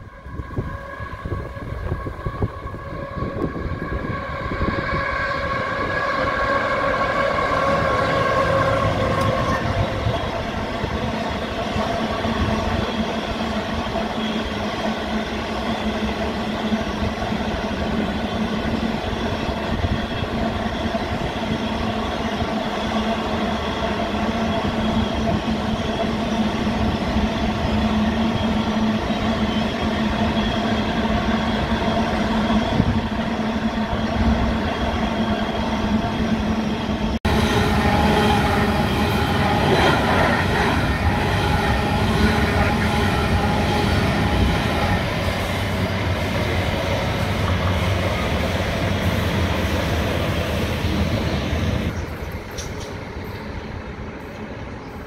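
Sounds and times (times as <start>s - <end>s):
locomotive engines: 0.0s - 55.0s
train wheels rumbling on rail: 0.0s - 55.0s.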